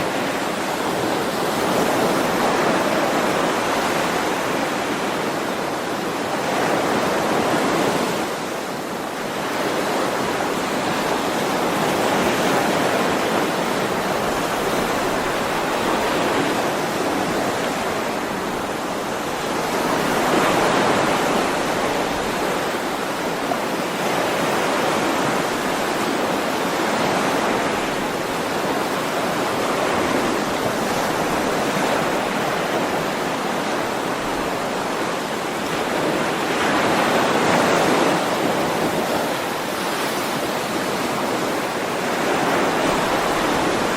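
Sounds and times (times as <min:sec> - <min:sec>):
ocean waves washing ashore: 0:00.0 - 0:43.9.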